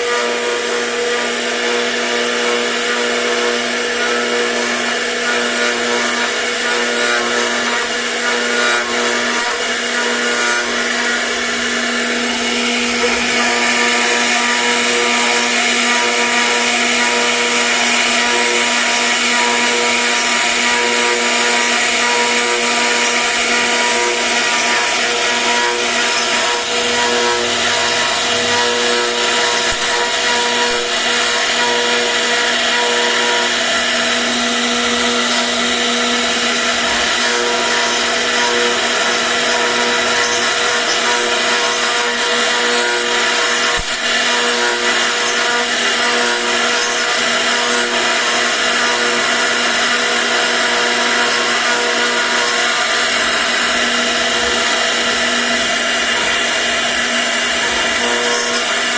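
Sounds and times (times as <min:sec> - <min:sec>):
router cutting wood: 0:00.0 - 0:58.9
router spindle whine: 0:00.0 - 0:58.9.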